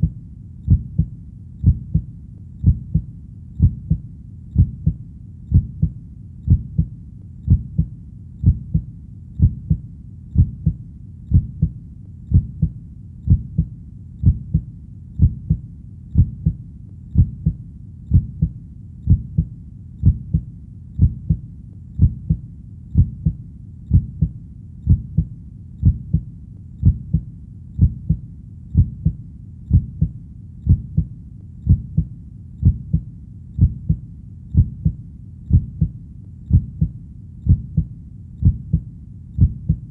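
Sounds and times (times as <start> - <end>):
heartbeat double thump: 0.0 - 4.0, 4.6 - 6.9, 7.5 - 9.8, 10.4 - 15.6, 16.2 - 16.6, 17.2 - 21.4, 22.0 - 22.4, 23.0 - 28.2, 28.8 - 31.1, 31.7 - 34.0, 34.6 - 36.9, 37.5 - 39.9.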